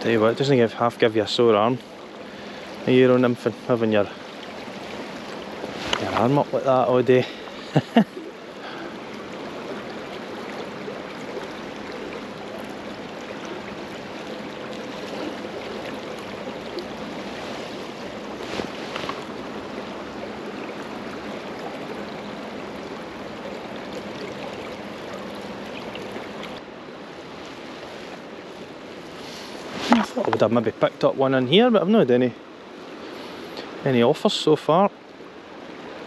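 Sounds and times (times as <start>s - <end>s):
river water rushing: 0.0s - 36.0s.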